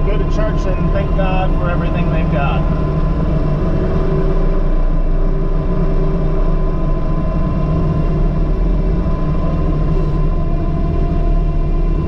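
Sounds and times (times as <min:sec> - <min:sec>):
loader engine droning: 0:00.0 - 0:12.0.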